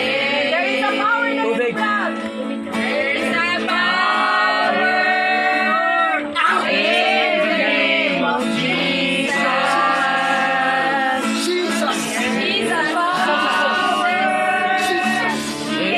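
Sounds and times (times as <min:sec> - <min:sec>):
voices singing together: 0:00.0 - 0:15.9.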